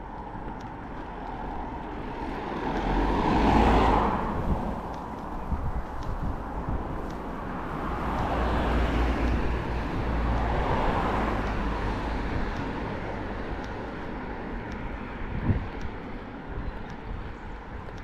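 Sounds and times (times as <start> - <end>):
wind rumble on microphone: 0.0 - 18.0
car passing: 0.9 - 16.6.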